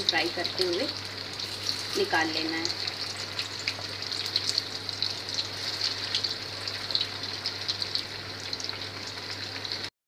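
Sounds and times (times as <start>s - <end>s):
food deep-frying in oil: 0.0s - 9.9s.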